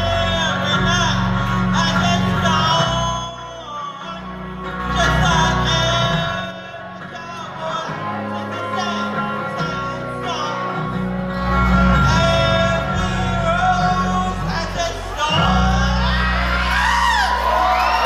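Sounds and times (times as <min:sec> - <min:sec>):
person singing: 0:00.0 - 0:17.4
electric guitars: 0:00.0 - 0:18.0.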